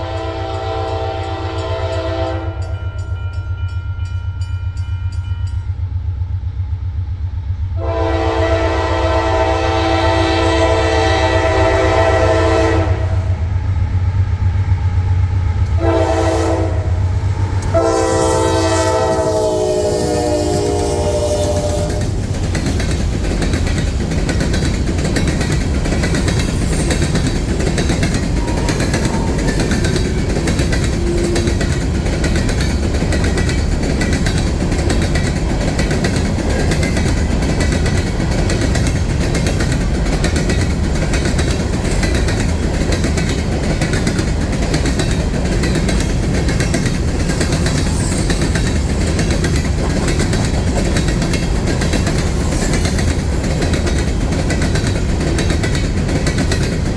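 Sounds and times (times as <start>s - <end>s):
freight train rumbling: 0.0s - 56.9s
train wheels rattling on rails: 0.0s - 56.9s.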